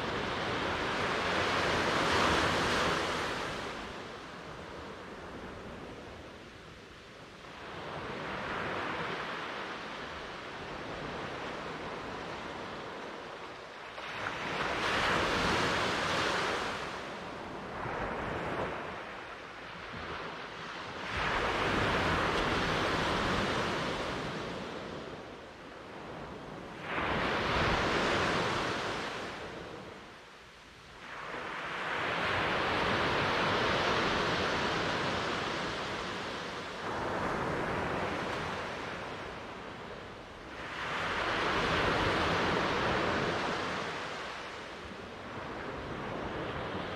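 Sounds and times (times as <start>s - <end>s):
ocean waves breaking on shore: 0.0s - 46.9s.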